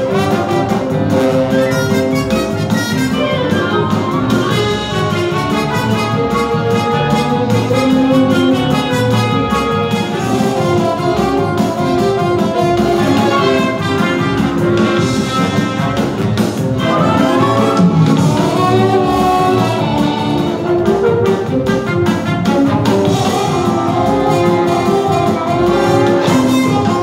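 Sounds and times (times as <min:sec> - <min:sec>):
brassy jazz orchestra music: 0:00.0 - 0:27.0.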